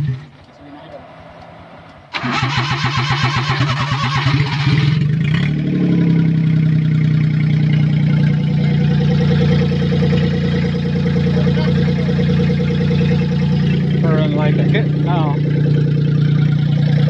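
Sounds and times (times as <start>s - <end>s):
truck engine cranking and running: 0.0s - 17.0s.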